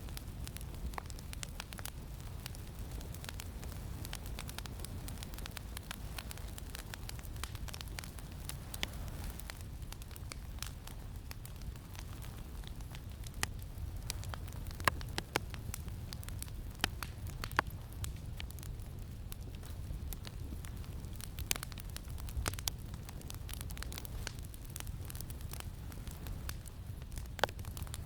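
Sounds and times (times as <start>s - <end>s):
campfire crackling and popping: 0.0s - 28.0s
low rumble of wind: 0.0s - 28.0s.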